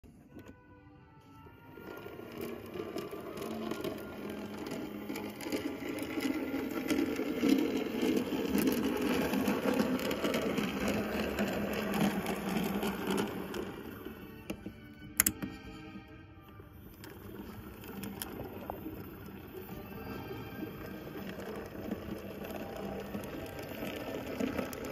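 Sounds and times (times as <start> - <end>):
model locomotive motor whirring: 1.2 - 24.9.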